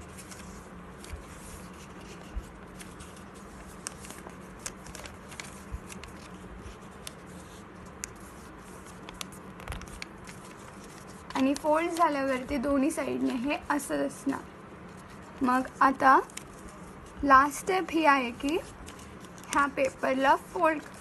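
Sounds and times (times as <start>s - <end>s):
paper rustling and folding: 0.0s - 14.3s, 14.9s - 21.0s.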